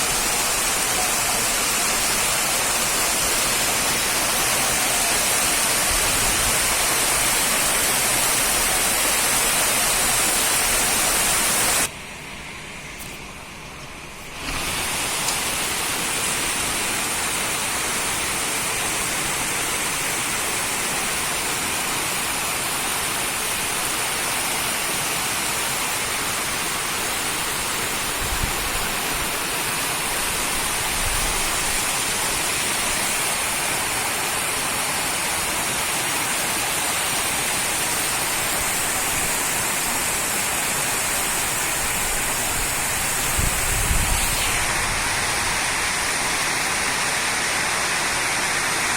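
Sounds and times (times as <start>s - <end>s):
heavy rain pouring: 0.0s - 11.9s, 14.3s - 48.9s.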